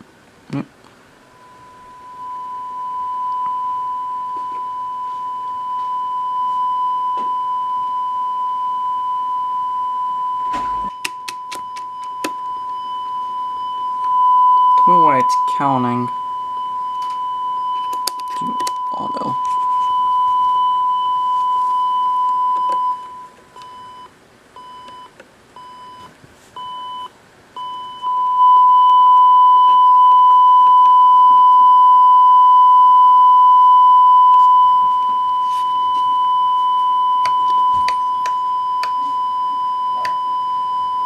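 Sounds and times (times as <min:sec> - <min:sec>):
electronic beep tone: 0:01.3 - 0:41.0.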